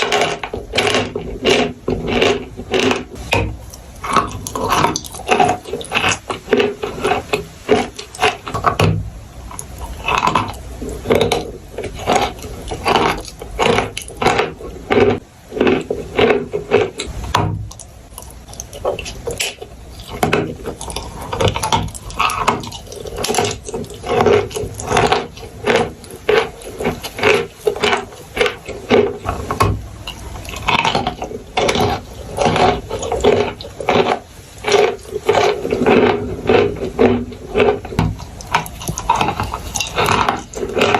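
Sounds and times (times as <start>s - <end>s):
chalk and clay crunching: 0.0s - 40.9s.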